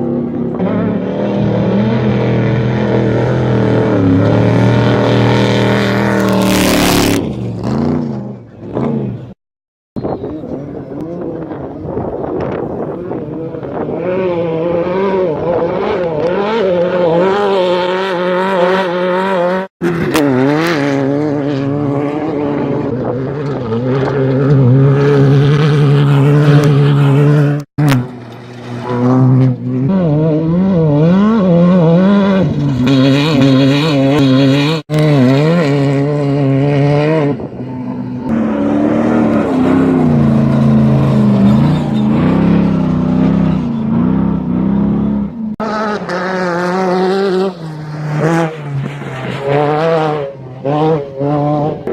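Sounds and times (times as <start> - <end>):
race vehicle engines passing: 10.0 - 51.9.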